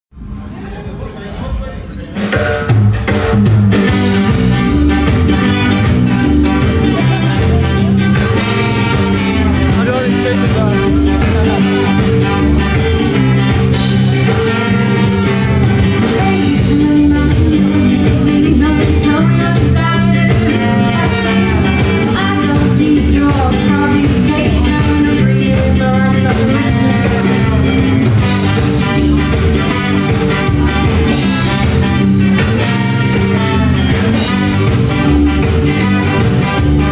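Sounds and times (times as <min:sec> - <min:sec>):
bass guitar: 0:00.1 - 0:36.9
drums: 0:00.1 - 0:36.9
electric guitars: 0:00.2 - 0:36.9.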